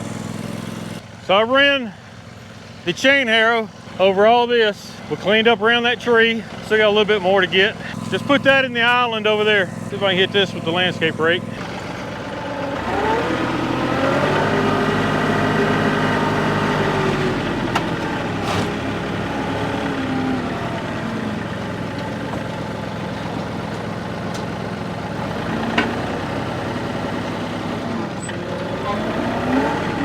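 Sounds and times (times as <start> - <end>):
tractor engine revving: 0.0 - 2.1, 2.8 - 30.0.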